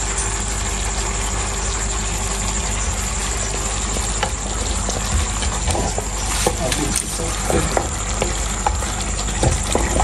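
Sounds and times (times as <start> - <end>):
stove hum and hiss: 0.0 - 10.0.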